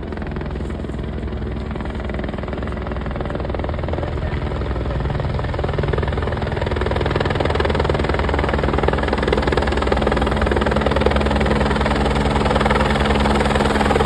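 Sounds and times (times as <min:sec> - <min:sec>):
helicopter rotor chop: 0:00.0 - 0:14.0.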